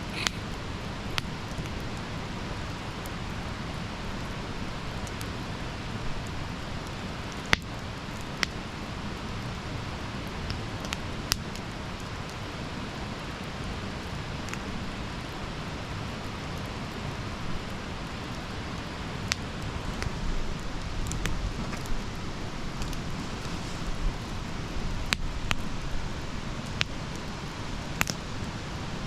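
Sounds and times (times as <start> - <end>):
burning wood crackling pops: 0.0 - 28.7
hiss and rumble of flames: 0.0 - 29.0.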